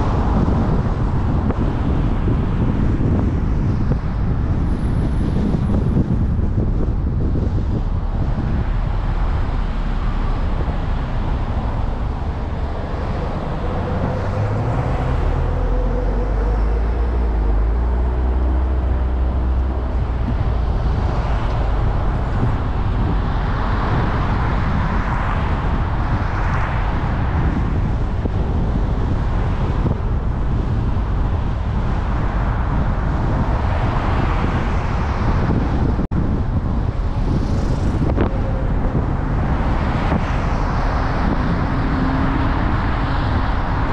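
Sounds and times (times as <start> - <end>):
car tyre and engine rumble: 0.0 - 43.9
vehicles passing: 0.0 - 43.9.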